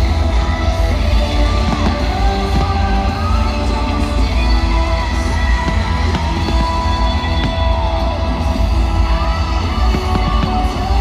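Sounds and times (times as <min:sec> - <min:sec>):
loud soundtrack music with heavy bass: 0:00.0 - 0:11.0.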